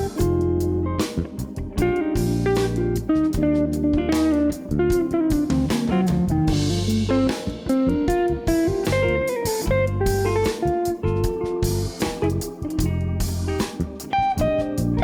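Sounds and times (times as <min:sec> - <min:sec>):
bass line: 0:00.0 - 0:15.0
drums: 0:00.0 - 0:15.0
plucked guitar melody: 0:00.0 - 0:15.0.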